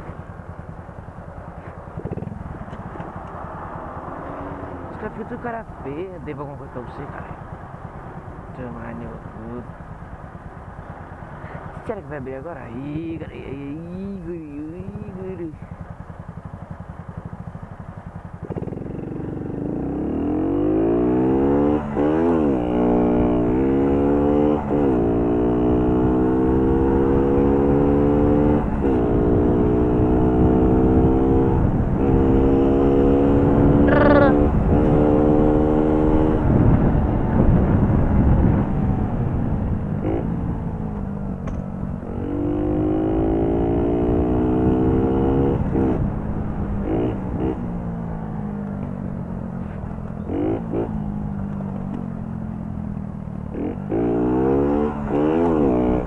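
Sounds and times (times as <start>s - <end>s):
moped engine accelerating: 0.0s - 56.0s
road and wind rumble: 0.0s - 56.0s.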